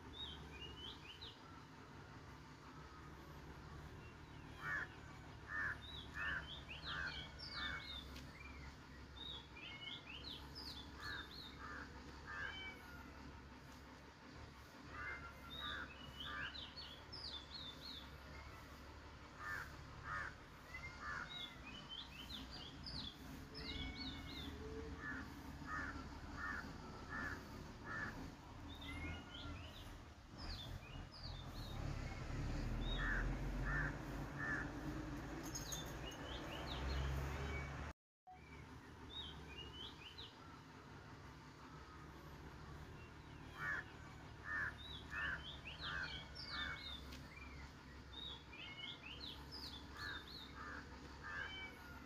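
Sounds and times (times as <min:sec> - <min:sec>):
birds chirping: 0:00.0 - 0:52.0
low steady background rumble: 0:00.0 - 0:52.0.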